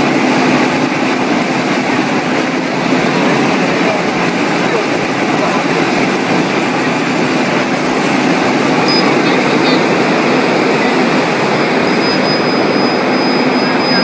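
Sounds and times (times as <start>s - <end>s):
laser machine air rushing: 0.0s - 14.0s
thin high whine: 0.0s - 14.0s.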